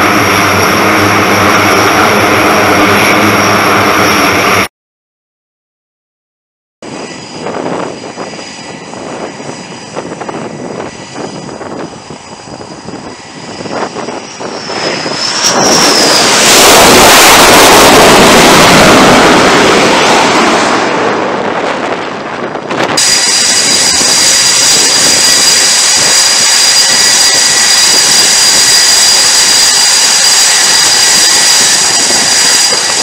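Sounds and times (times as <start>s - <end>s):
jet engine whine and roar: 0.0s - 4.7s, 6.8s - 33.0s.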